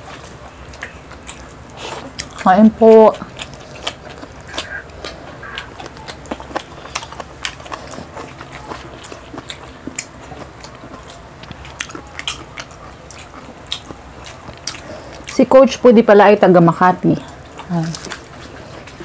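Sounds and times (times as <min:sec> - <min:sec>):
biting and chewing food: 0:00.0 - 0:19.0.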